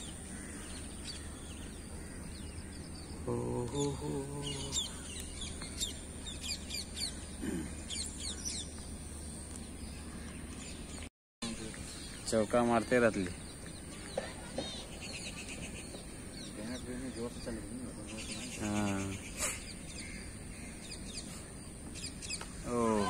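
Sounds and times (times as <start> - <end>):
low background hum: 0.0 - 23.0
small birds chirping: 0.0 - 23.0.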